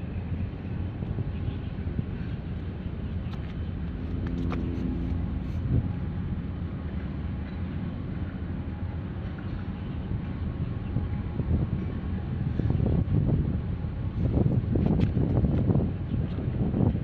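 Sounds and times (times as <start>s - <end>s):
distant engines: 0.0s - 17.0s
faint engine hum: 0.0s - 17.0s
wind rumble on microphone: 0.0s - 17.0s.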